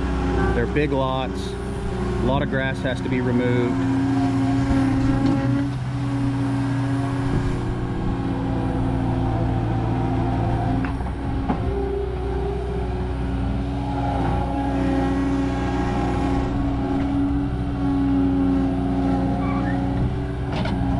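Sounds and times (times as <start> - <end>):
skid steer engine running: 0.0 - 20.9.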